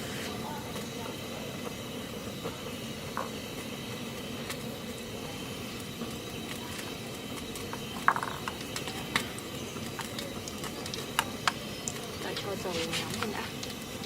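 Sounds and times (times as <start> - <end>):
stove burner hissing: 0.0 - 14.0.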